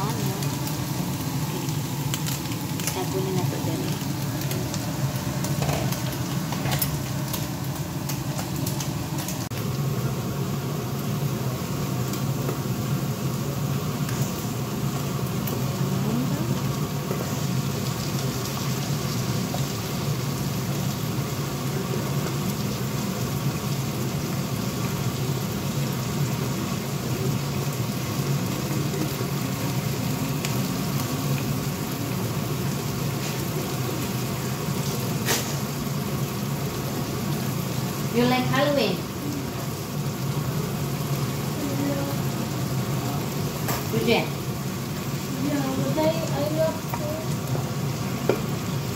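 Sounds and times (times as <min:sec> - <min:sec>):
food sizzling in frying pans: 0:00.0 - 0:48.9.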